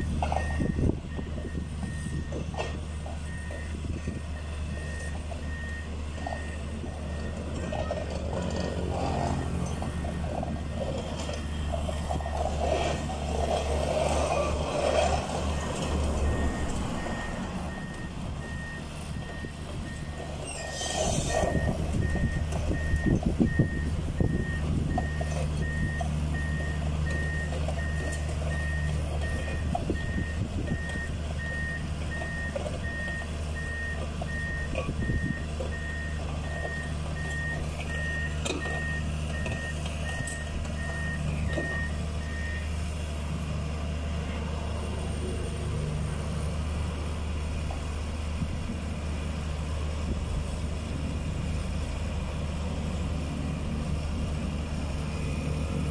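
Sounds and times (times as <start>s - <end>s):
diesel engine under load: 0.0s - 55.9s.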